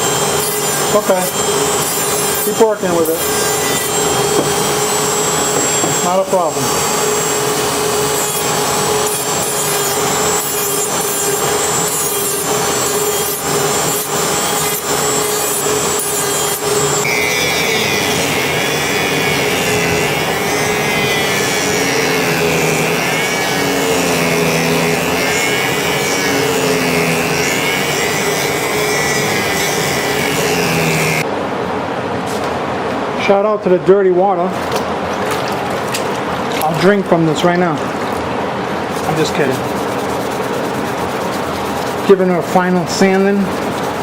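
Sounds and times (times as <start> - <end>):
knife grinding on grinder: 0.0 - 31.2, 34.6 - 44.0
grinder motor hum: 0.0 - 31.3, 34.5 - 44.0.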